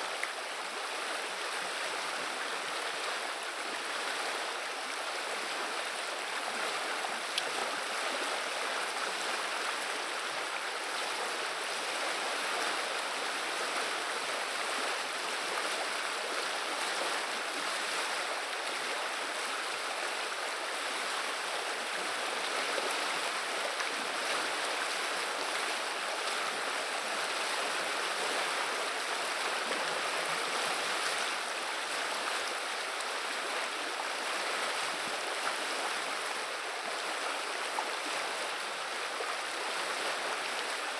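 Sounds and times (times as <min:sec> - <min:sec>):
river water babbling: 0:00.0 - 0:40.9.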